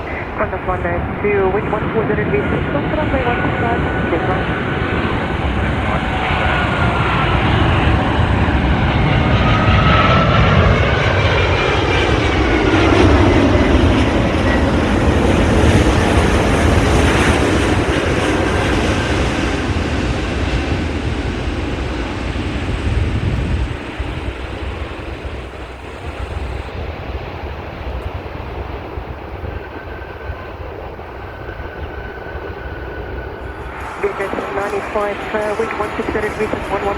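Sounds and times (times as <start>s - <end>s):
jet airliner passing: 0.0s - 36.9s.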